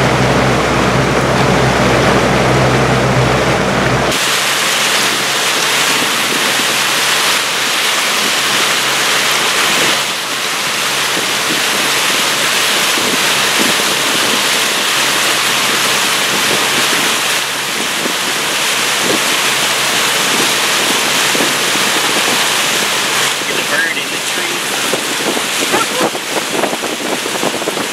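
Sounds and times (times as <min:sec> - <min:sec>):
boat motor hum: 0:00.0 - 0:27.9
wind and water rushing: 0:00.0 - 0:27.9.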